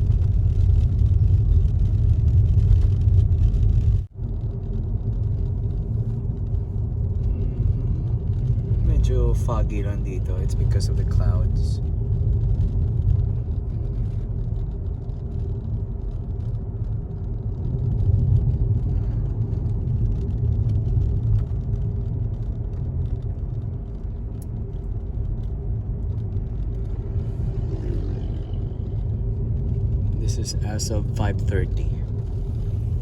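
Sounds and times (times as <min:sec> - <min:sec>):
car engine rumble: 0:00.0 - 0:33.0
road noise: 0:00.0 - 0:33.0.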